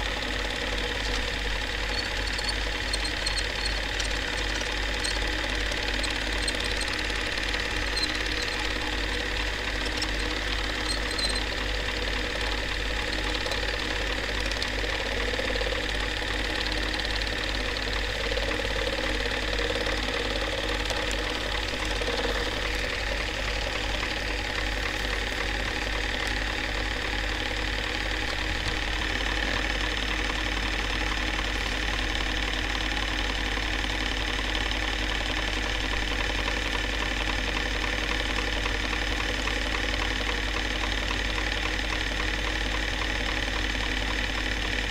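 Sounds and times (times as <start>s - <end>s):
film projector whirring and clattering: 0.0s - 44.9s.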